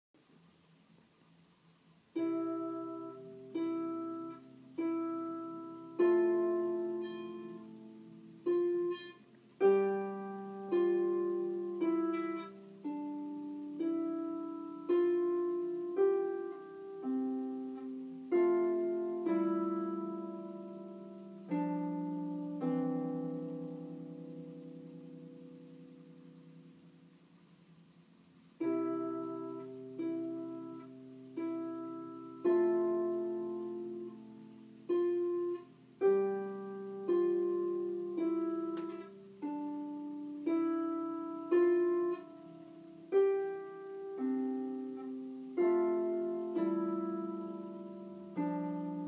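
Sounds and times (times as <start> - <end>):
harp plucked notes and chords: 2.2 - 27.1, 28.6 - 49.0.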